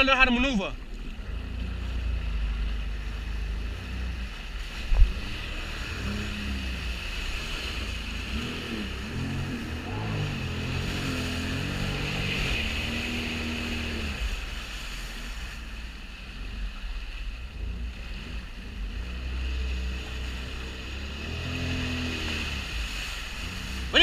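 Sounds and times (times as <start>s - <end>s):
jet ski engine running: 0.0s - 24.0s
wind and water hiss: 0.0s - 24.0s.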